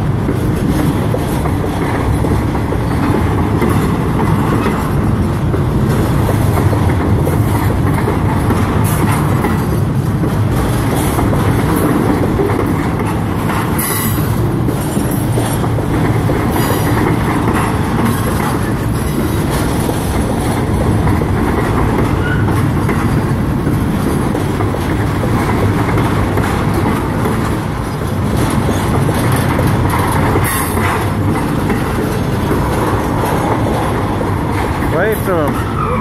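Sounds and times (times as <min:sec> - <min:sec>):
freight train wheels on rails: 0:00.0 - 0:36.0.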